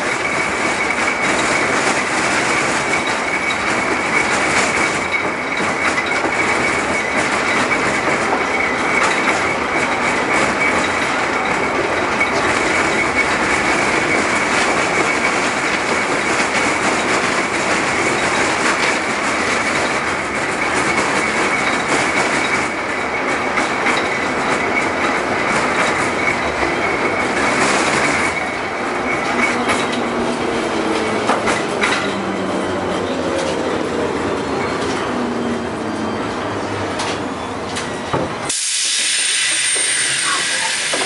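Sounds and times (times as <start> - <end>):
tram wheels clattering over rail joints: 0.0 - 41.0.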